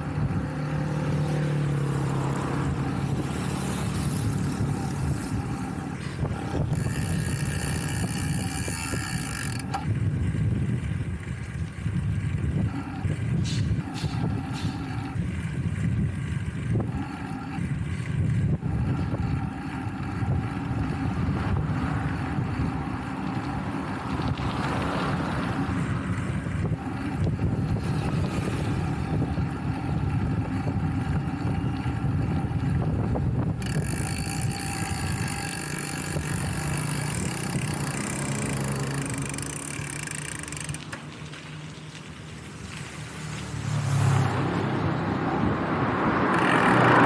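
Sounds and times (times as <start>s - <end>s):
wind buffeting microphone: 0.0s - 40.0s
bicycle tyres on paved road: 0.0s - 47.0s.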